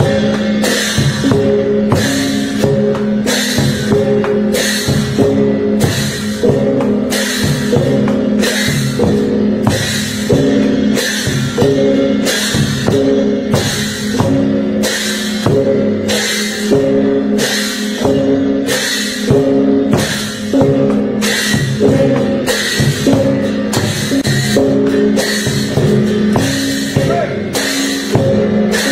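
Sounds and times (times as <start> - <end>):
cymbals crashing: 0.0 - 28.9
gongs ringing: 0.0 - 28.9
large barrel drum beaten: 0.0 - 28.9.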